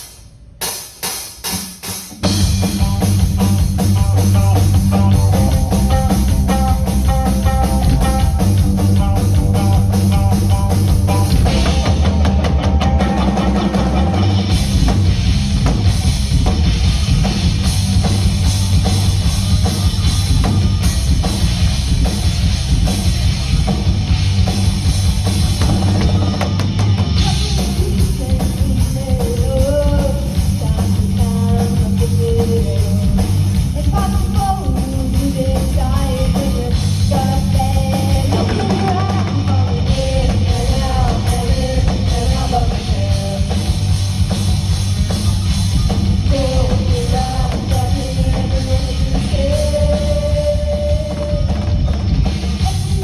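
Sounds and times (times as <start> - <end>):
drum kit: 0.0 - 53.0
rock band playing live: 0.0 - 53.0
distorted electric guitar: 2.1 - 53.0
loud steady bass: 2.2 - 53.0.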